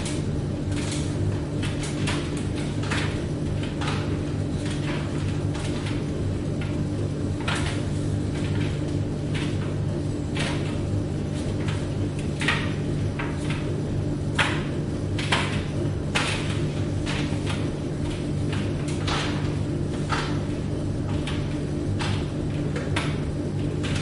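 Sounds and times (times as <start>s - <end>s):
tumble dryer humming: 0.0s - 24.0s.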